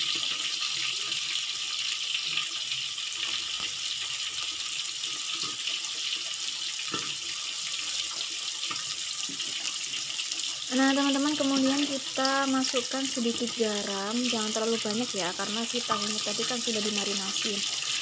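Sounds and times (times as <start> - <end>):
garlic and chillies sizzling in a wok: 0.0 - 18.0.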